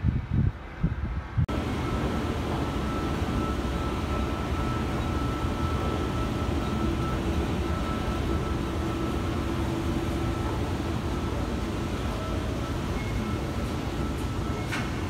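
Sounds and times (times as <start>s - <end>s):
escalator mechanical rumble: 1.5s - 15.0s.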